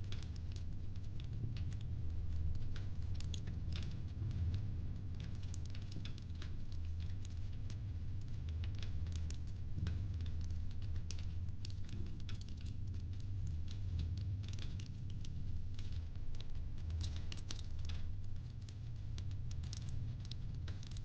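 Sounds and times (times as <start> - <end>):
low fire rumble: 0.0 - 21.0.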